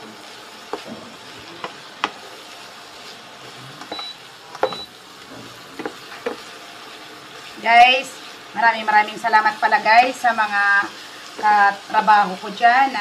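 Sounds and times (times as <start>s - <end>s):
shrimp sizzling in a frying pan: 0.0s - 13.0s.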